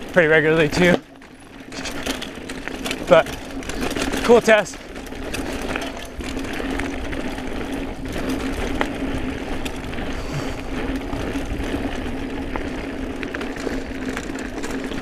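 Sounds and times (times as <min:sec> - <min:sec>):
bicycle freewheel buzzing: 0:00.0 - 0:15.0
bike clicks and rattles: 0:00.0 - 0:15.0
tyres rumbling on dirt: 0:00.0 - 0:15.0.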